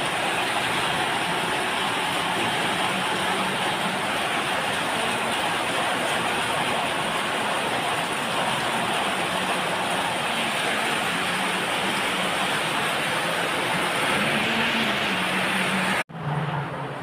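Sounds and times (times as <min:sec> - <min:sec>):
rain pouring: 0:00.0 - 0:17.0.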